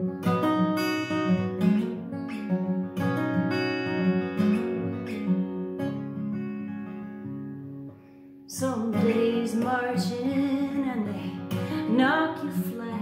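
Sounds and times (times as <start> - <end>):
acoustic guitar picked and strummed: 0.0 - 13.0.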